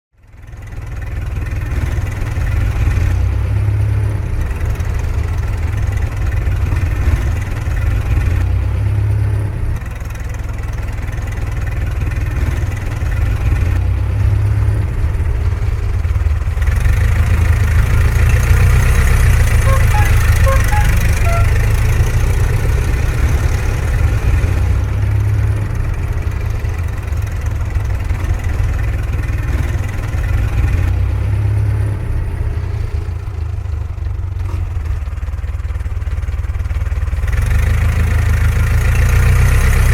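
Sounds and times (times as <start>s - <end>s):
car engine idling: 0.3s - 39.9s.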